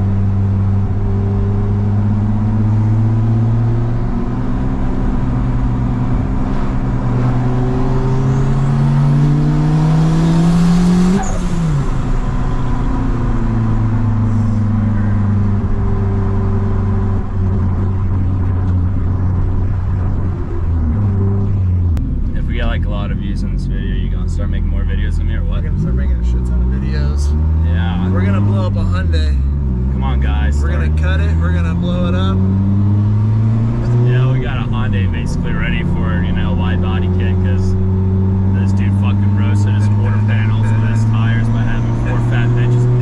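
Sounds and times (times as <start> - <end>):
car engine droning inside: 0.0 - 43.0.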